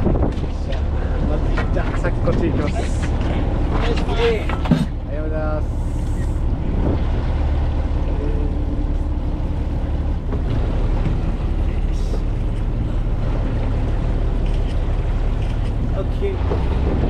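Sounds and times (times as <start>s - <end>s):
wind buffeting microphone: 0.0s - 5.1s, 6.4s - 17.0s
boat engine rumbling: 0.0s - 17.0s.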